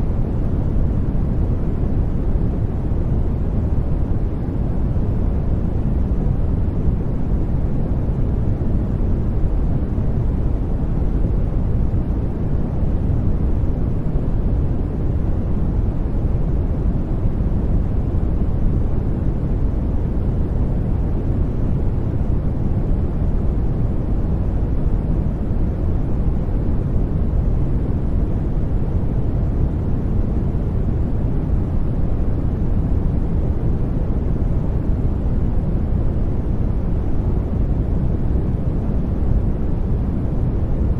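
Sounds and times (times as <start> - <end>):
low white noise hiss: 0.0 - 40.9.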